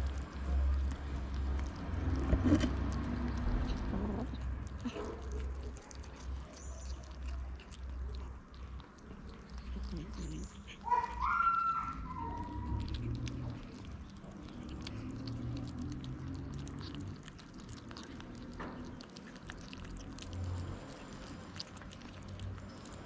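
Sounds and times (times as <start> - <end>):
kittens chewing wet food: 0.0 - 23.0.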